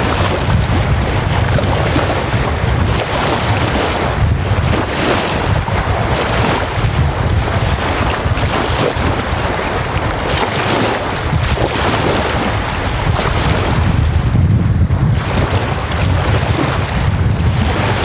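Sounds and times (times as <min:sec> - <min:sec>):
waves lapping on shore: 0:00.0 - 0:18.0
wind buffeting microphone: 0:00.0 - 0:18.0.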